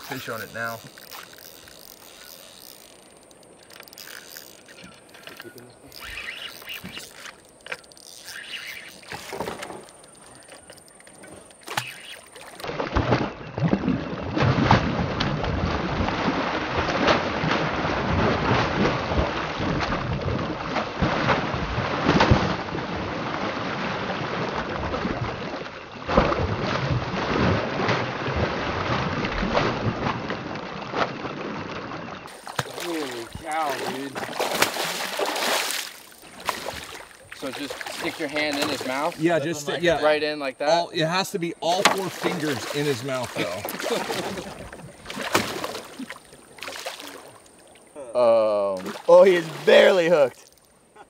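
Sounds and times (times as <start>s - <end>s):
water rushing around a boat: 0.0s - 51.0s.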